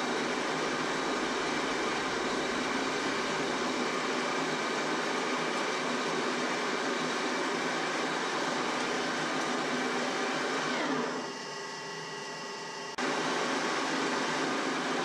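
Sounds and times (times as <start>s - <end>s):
metal lathe whirring: 0.0s - 12.9s.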